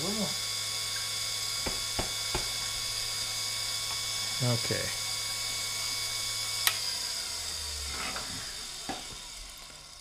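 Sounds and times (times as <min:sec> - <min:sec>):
grinder motor whining: 0:00.0 - 0:10.0.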